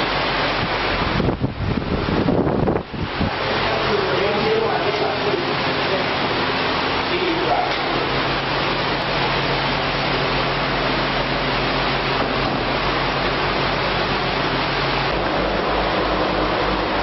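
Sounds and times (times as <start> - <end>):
large fan rushing: 0.0 - 17.0.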